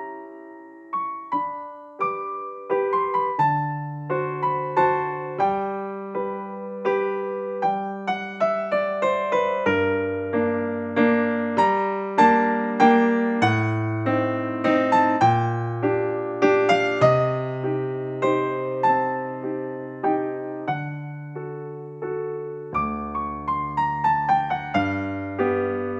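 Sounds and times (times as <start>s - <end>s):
electric piano melody: 0.0s - 25.9s.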